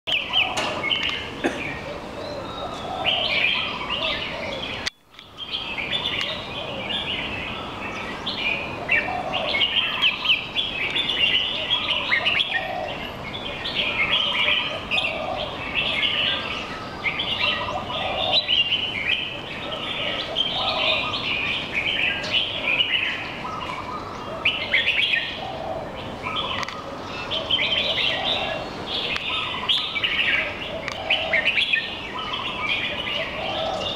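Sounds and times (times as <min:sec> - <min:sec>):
songbirds singing and chirping: 0:00.1 - 0:33.9.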